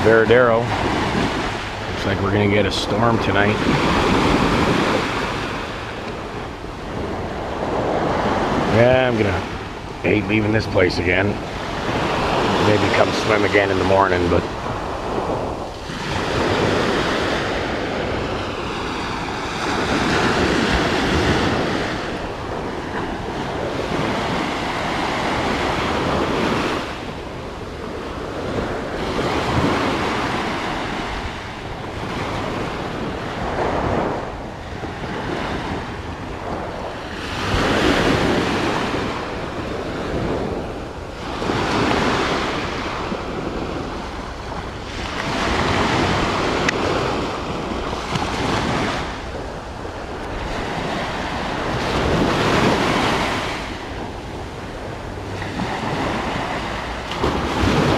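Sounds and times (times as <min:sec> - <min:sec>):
surf breaking on beach: 0:00.0 - 0:57.9
wind buffeting microphone: 0:00.0 - 0:57.9.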